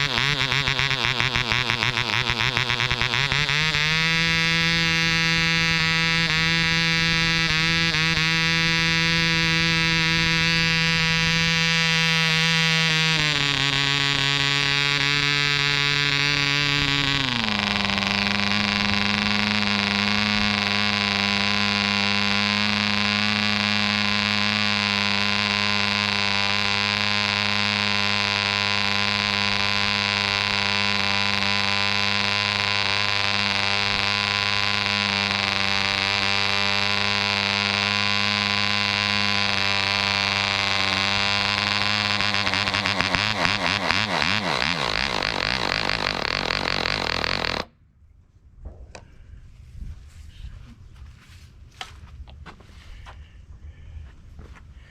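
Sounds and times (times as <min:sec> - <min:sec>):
model airplane engine running: 0:00.0 - 0:47.7.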